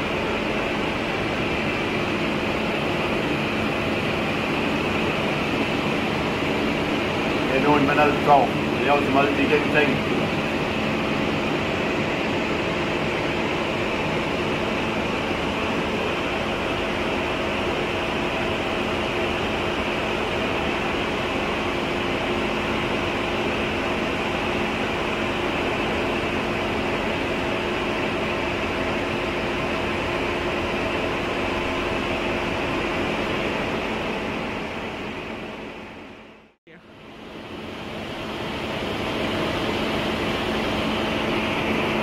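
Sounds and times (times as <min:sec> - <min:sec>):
film projector whirring: 0:00.0 - 0:36.1.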